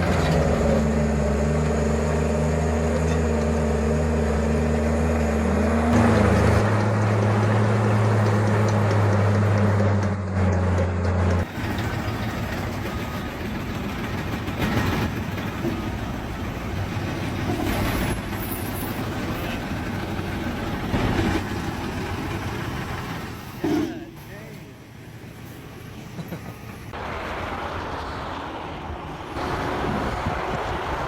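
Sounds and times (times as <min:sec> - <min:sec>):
rough diesel machine noise: 0:00.0 - 0:31.0.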